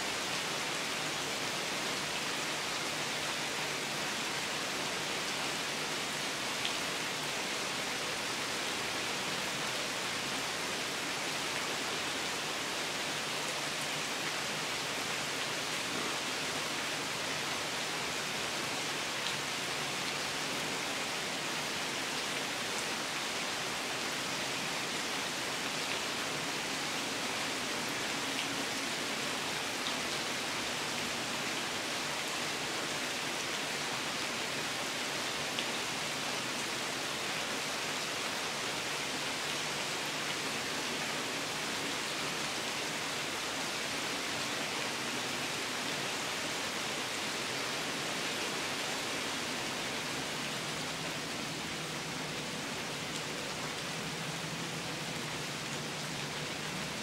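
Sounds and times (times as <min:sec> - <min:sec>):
rain falling through trees: 0:00.0 - 0:57.0.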